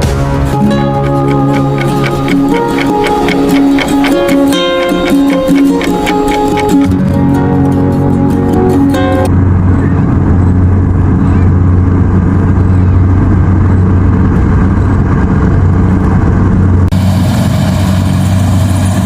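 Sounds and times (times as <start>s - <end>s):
combine harvester engine humming: 0.0s - 19.0s.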